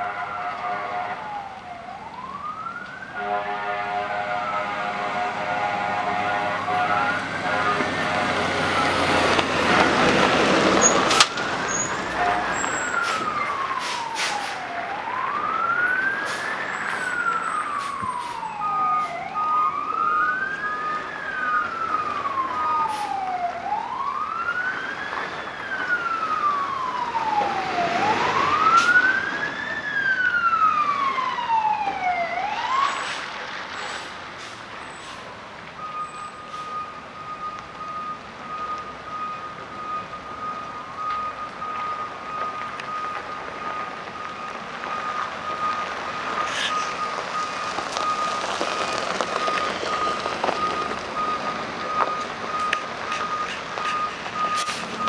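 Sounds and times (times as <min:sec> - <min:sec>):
emergency vehicle siren wailing: 0:00.0 - 0:55.0.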